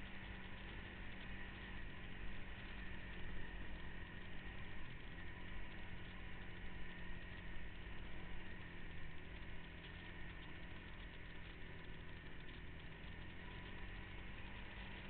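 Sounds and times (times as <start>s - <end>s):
vehicle engine running steadily: 0.0s - 15.0s.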